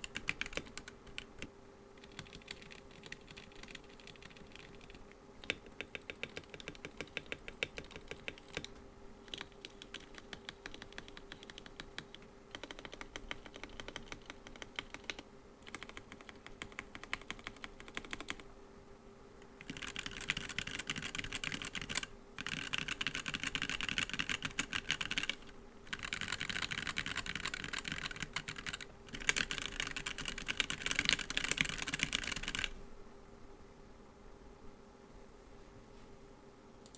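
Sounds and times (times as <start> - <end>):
mechanical keyboard typing: 0.0 - 18.4, 19.6 - 32.8
faint steady hum: 0.0 - 36.9.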